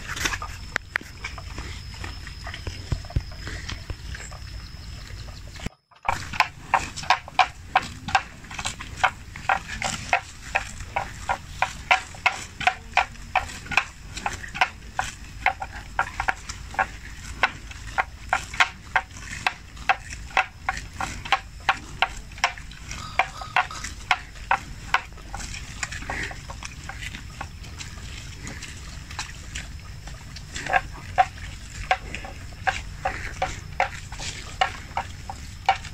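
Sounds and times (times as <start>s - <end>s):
buffalo tearing grass: 6.1s - 35.9s.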